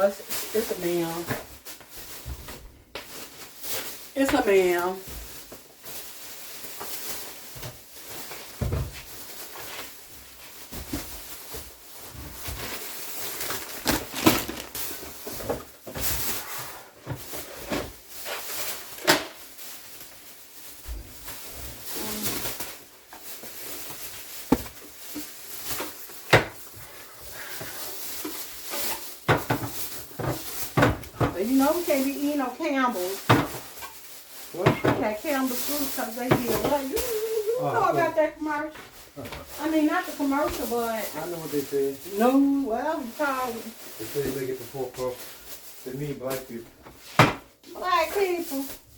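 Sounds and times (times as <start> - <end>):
rustling of groceries: 0.0 - 48.9.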